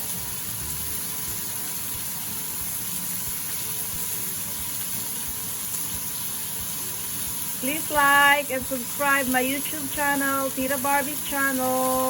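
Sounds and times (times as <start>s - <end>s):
meat sizzling on a grill pan: 0.0s - 12.0s.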